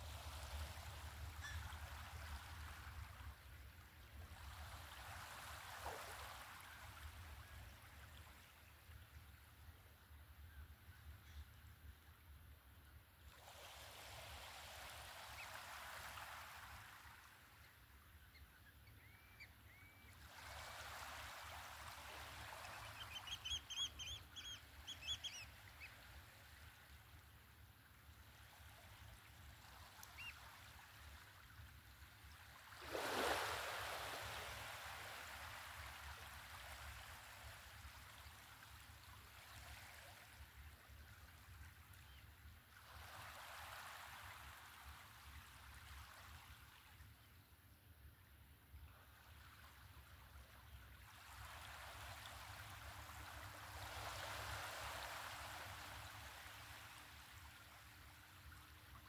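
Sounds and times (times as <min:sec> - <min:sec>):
small waves lapping on shore: 0:00.0 - 0:10.2, 0:13.2 - 0:47.5, 0:48.7 - 0:59.0.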